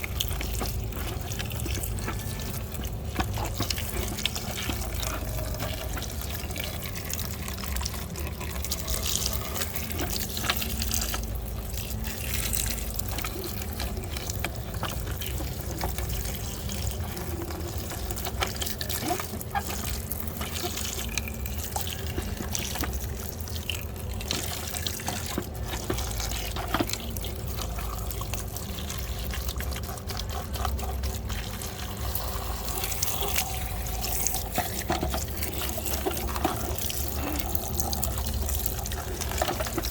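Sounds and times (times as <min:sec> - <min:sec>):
running water splashing: 0:00.0 - 0:39.9.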